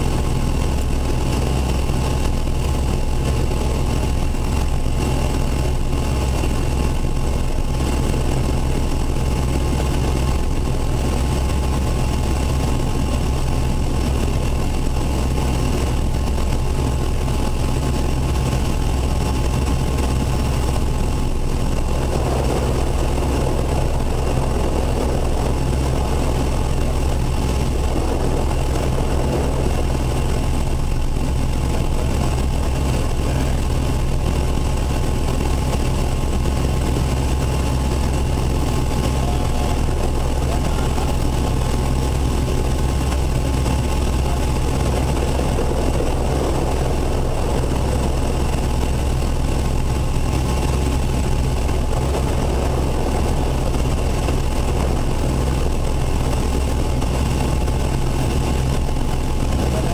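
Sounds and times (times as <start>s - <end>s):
high turbine whine: 0.0s - 59.9s
turboshaft engines low drone: 0.0s - 59.9s.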